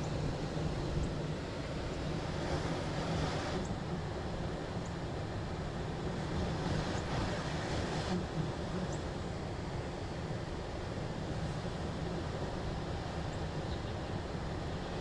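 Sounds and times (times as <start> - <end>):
heat pump blower fan hum: 0.0 - 15.0.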